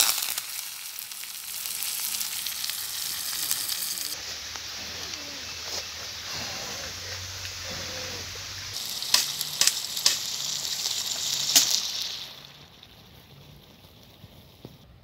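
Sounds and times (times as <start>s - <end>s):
oil crackles and pops: 0.0s - 6.2s, 8.7s - 15.0s
chicken sizzling in hot oil: 0.0s - 15.0s.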